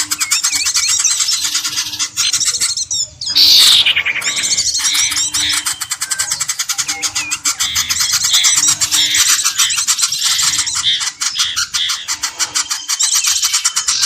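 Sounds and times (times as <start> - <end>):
fast ticking bird calls: 0.0 - 14.0
small birds chirping: 0.0 - 14.0.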